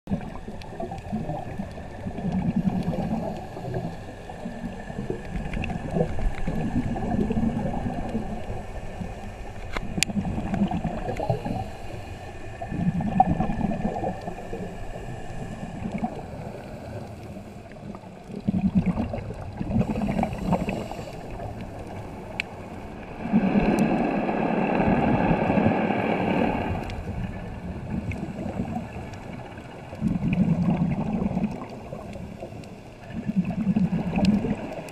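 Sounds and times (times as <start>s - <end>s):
exhaled bubbles gurgling underwater: 0.1s - 34.9s.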